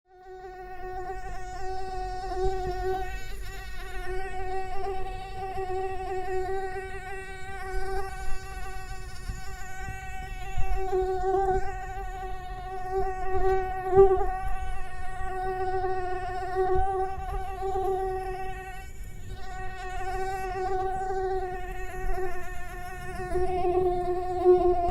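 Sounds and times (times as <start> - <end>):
mosquito buzzing: 0.1 - 24.9.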